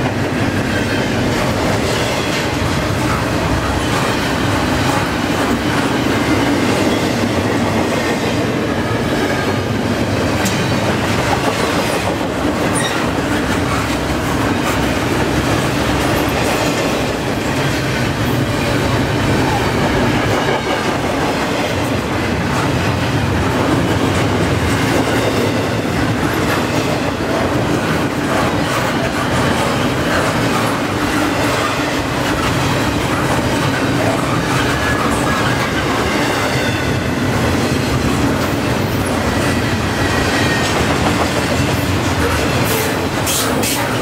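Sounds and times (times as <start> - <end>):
freight train rumbling and rattling: 0.0 - 44.0.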